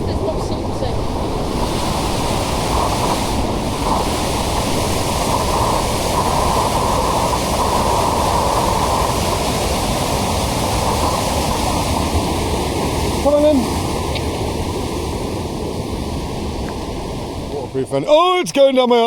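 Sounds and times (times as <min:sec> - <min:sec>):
heavy rain: 0:00.0 - 0:18.5.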